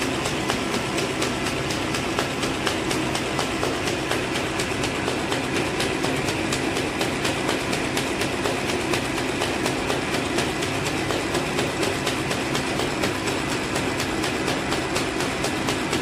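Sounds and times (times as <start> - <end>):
machine rapid clicking: 0.0 - 16.0
mechanical hum: 0.0 - 16.0.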